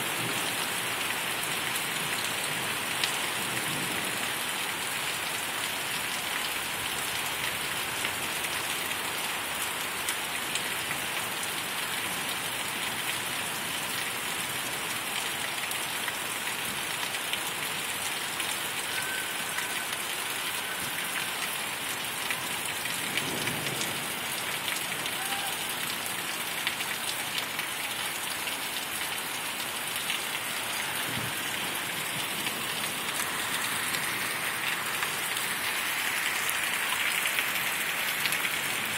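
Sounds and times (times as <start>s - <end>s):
raindrops splashing: 0.0s - 38.9s
steady rain falling: 0.0s - 38.9s.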